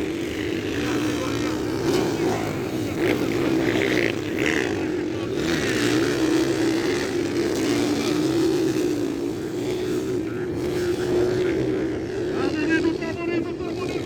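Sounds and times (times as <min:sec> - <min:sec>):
motocross bike engines droning: 0:00.0 - 0:14.0.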